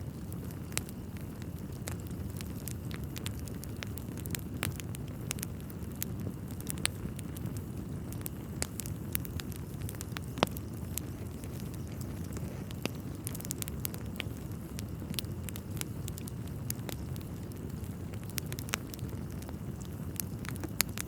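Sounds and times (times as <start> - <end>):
wood fire crackling: 0.0 - 21.0
sharp pops of burning logs: 0.1 - 21.0.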